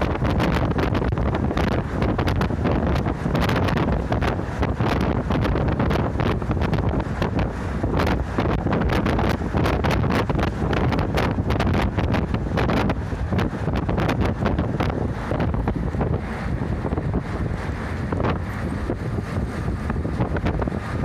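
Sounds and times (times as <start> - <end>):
bus engine and road noise: 0.0 - 21.0
wind buffeting microphone: 0.0 - 21.0.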